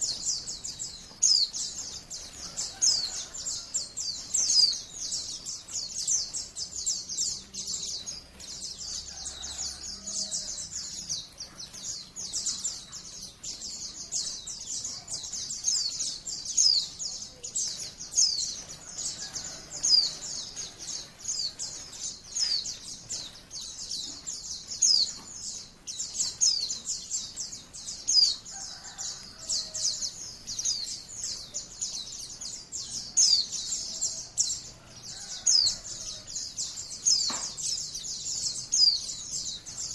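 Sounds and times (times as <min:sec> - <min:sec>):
bird song with high chirps: 0:00.0 - 0:39.9.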